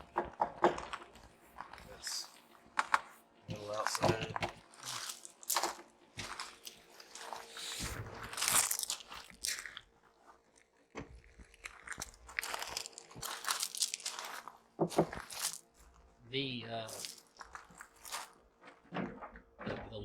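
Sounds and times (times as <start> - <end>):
packaging crunching and rustling: 0.0 - 16.1, 16.8 - 18.8.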